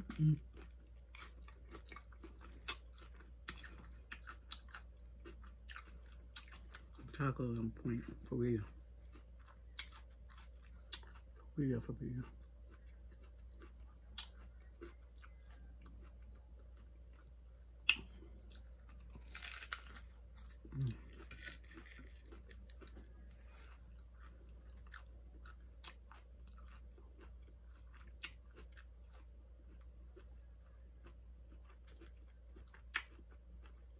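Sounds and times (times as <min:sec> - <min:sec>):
crunchy taco shell chewing: 0:00.1 - 0:07.2, 0:12.4 - 0:33.9.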